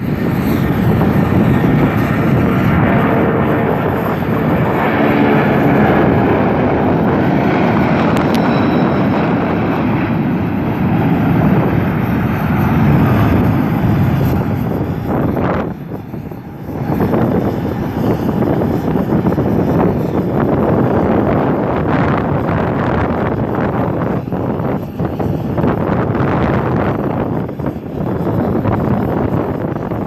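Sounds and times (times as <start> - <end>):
jet engines at take-off power: 0.0 - 30.0.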